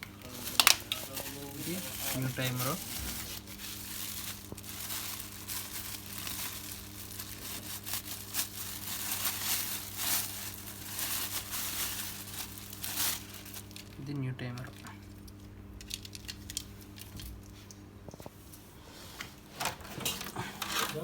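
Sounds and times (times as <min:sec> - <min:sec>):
plastic packaging crinkling: 0:00.0 - 0:18.2
steady low hum: 0:00.0 - 0:21.0.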